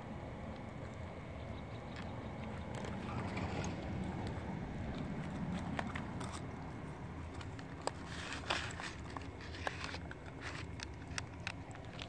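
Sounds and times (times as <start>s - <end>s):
low steady rumble: 0.0s - 12.0s
cats chewing wetly: 0.2s - 12.0s
kibble crunching: 1.8s - 12.0s.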